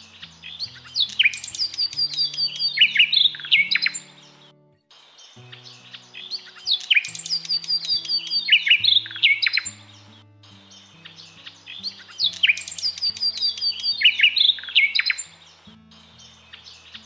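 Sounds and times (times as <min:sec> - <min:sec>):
birds chirping: 0:00.0 - 0:17.0
soft background music: 0:00.0 - 0:17.0.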